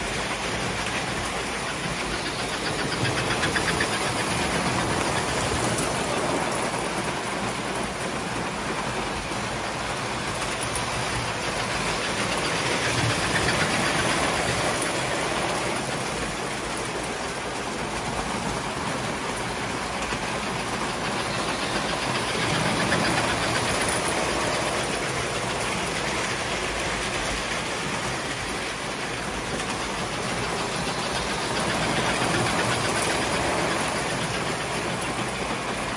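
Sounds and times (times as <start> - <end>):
model train motors humming: 0.0 - 35.9
wheels clattering over rail joints: 0.0 - 35.9.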